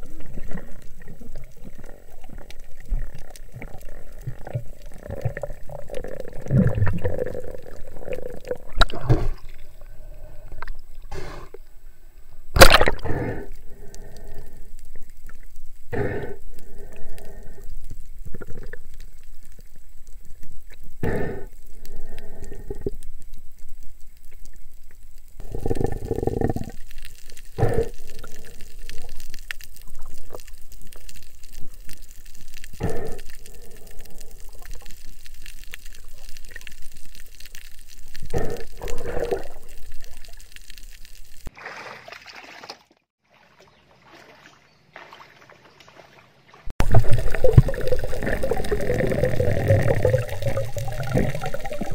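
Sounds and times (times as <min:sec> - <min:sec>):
underwater bubbling and gurgling: 0:00.0 - 0:41.5, 0:46.8 - 0:51.9.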